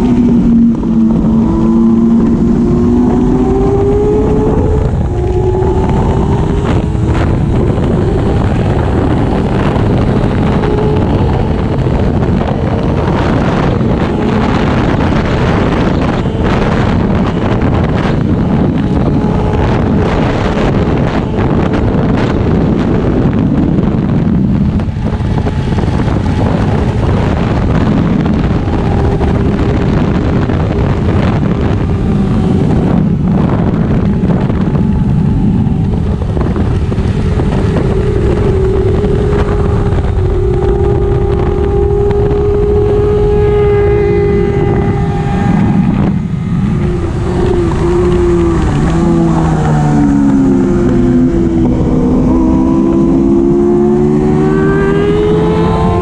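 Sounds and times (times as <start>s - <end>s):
motorcycle engine at high revs: 0.0s - 56.0s
wind rushing over camera: 0.0s - 56.0s.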